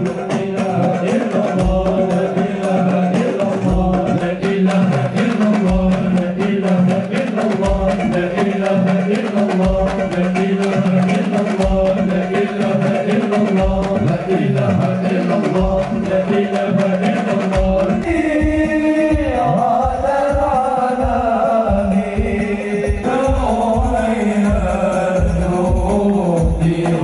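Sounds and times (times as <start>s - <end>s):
deep hand drum beats: 0.0s - 27.0s
devotional singing: 0.0s - 27.0s.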